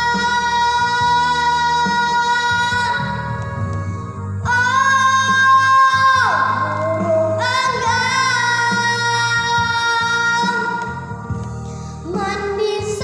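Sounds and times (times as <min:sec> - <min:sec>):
child singing: 0:00.0 - 0:03.3, 0:04.5 - 0:11.0, 0:12.0 - 0:13.0
backing music: 0:00.0 - 0:13.0.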